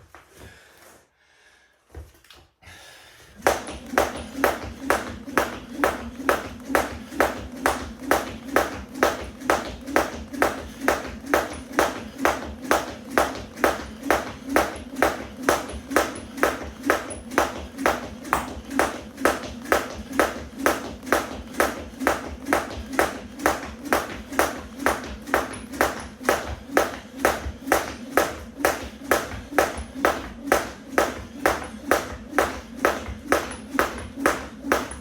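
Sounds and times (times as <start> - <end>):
jump rope slapping the floor: 3.4 - 35.0.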